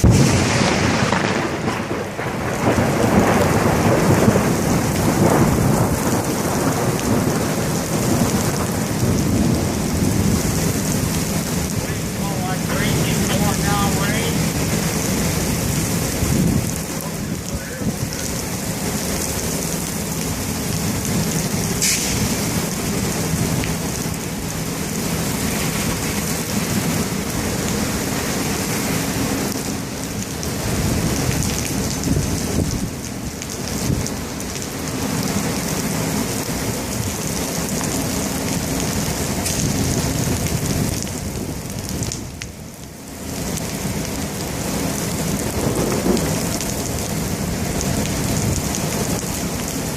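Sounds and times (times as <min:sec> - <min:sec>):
thunder rumbling: 0:00.0 - 0:42.7, 0:43.3 - 0:49.9
heavy rain pouring: 0:00.0 - 0:49.9.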